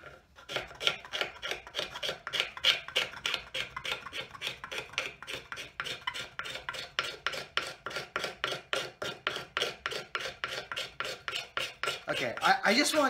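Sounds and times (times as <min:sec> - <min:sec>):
hand scraper scraping wood: 0:00.0 - 0:13.0.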